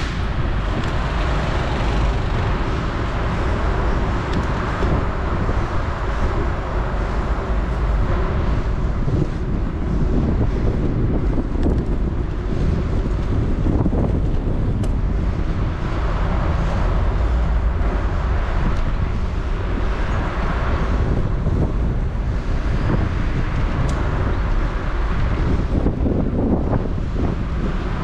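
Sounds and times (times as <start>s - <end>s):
road and traffic noise: 0.0s - 28.0s
wind rumbling on microphone: 0.0s - 28.0s.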